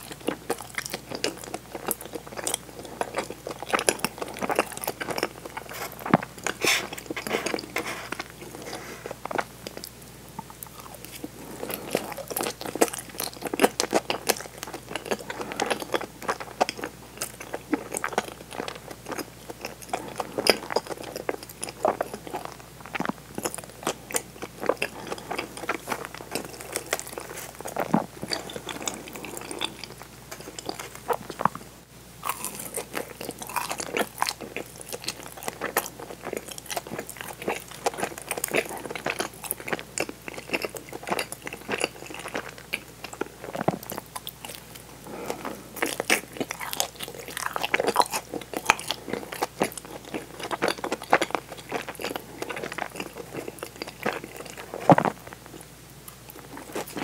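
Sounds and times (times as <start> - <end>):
chewing sticky rice cake: 0.0 - 57.0.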